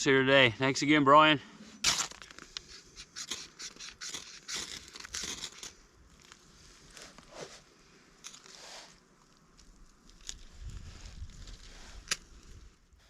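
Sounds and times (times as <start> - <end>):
dry tinder crinkling and scraping: 1.8 - 13.0.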